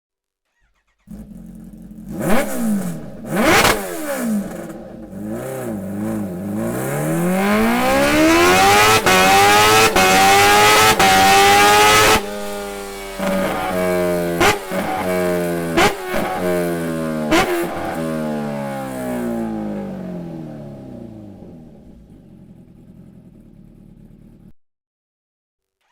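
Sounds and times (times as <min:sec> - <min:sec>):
motorcycle engine revving: 0:00.6 - 0:24.5.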